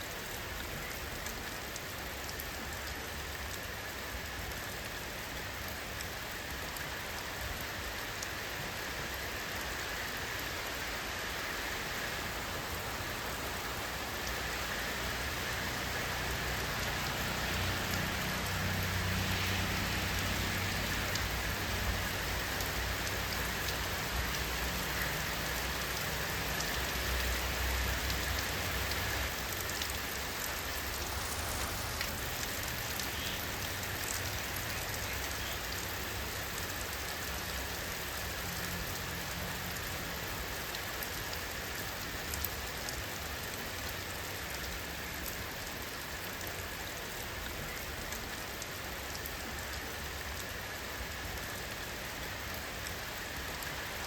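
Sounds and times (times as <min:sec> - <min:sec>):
rain hissing: 0:00.0 - 0:54.0
raindrop ticks: 0:00.2 - 0:10.8, 0:17.8 - 0:50.6.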